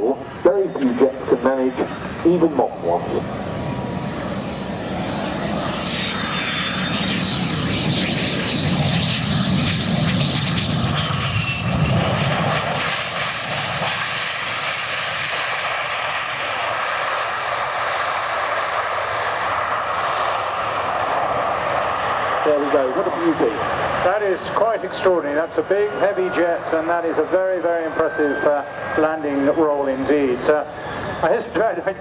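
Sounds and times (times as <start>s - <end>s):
jet engine whine: 0.0s - 32.0s.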